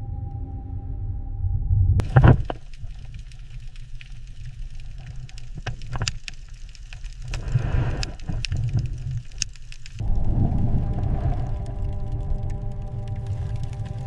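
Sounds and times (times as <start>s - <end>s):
deep low rumble: 0.0s - 5.6s, 7.4s - 14.0s
sharp clicks and crackles: 2.0s - 14.0s.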